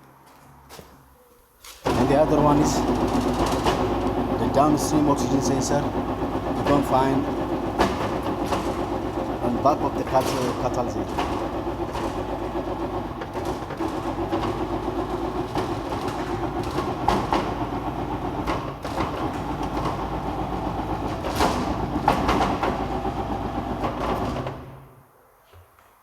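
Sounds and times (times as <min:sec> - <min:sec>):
machine running with rattles: 0:01.8 - 0:25.0.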